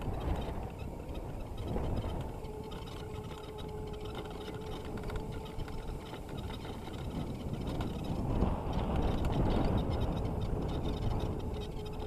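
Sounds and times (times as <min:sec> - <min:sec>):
electric motor whining: 0:00.0 - 0:12.0
wind and tyre rumble: 0:00.0 - 0:12.0.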